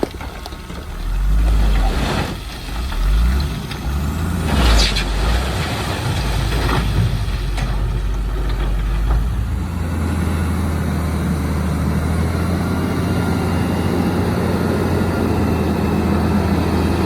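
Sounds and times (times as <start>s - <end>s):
heavy diesel engine under load: 0.0s - 17.0s.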